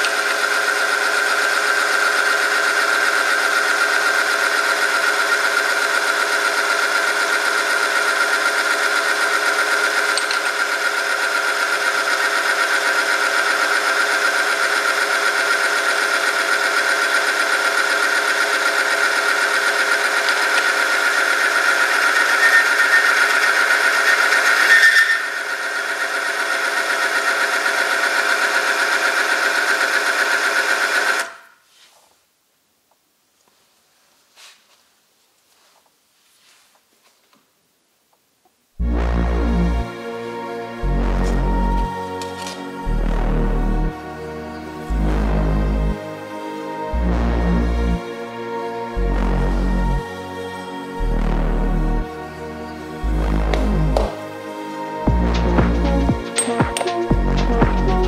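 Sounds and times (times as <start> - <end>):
friction test machine whining: 0.0 - 31.6, 38.8 - 58.0.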